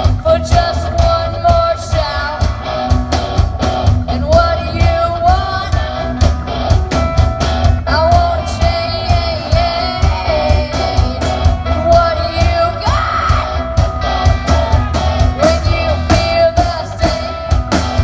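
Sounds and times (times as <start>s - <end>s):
person singing: 0.0s - 2.6s, 4.0s - 6.2s, 7.8s - 17.8s
drum beat: 0.0s - 18.0s
rock music: 0.0s - 18.0s.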